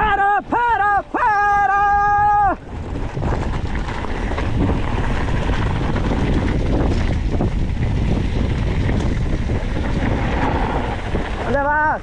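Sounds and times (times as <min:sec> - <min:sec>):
low rumble of moving bike: 0:00.0 - 0:12.0
wind buffeting microphone: 0:00.0 - 0:12.0.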